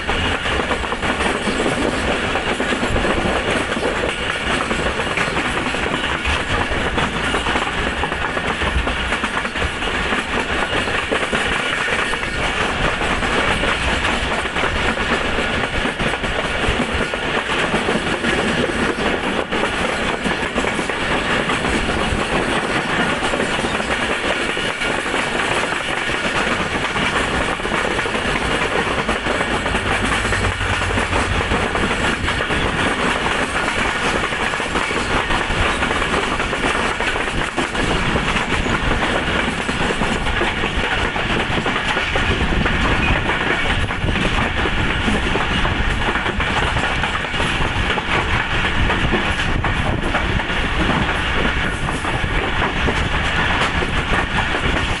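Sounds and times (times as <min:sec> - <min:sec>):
rapid clatter of clicks: 0:00.0 - 0:55.0
steady rushing noise: 0:00.0 - 0:55.0
train wheels rumbling on rails: 0:00.0 - 0:55.0.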